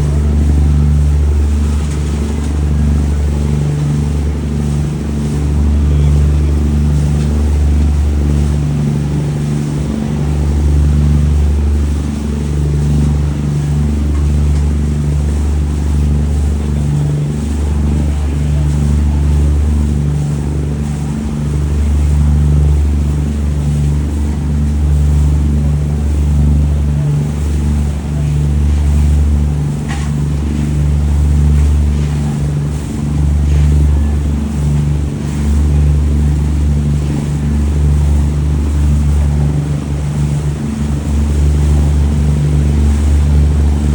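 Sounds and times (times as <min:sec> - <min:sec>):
boat engine droning: 0:00.0 - 0:43.9.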